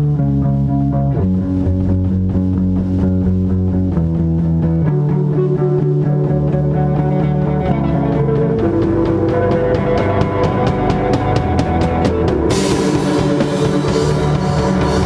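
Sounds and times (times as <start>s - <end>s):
rock guitars and bass: 0.0s - 15.0s.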